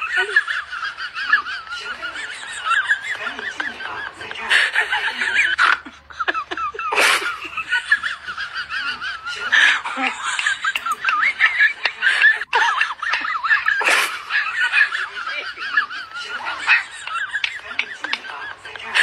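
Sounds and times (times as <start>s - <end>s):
high-pitched giggling laughter: 0.0s - 19.0s.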